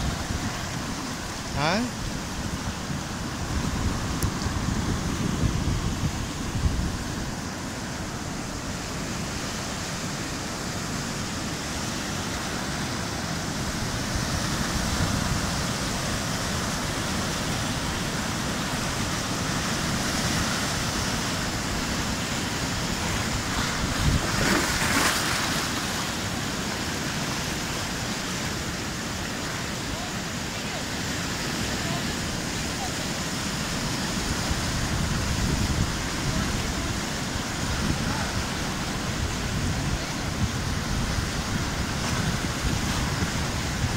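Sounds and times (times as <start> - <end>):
wind rumble on microphone: 0.0 - 10.0, 13.4 - 28.0, 31.4 - 43.9
surf washing over rocks: 0.0 - 43.9.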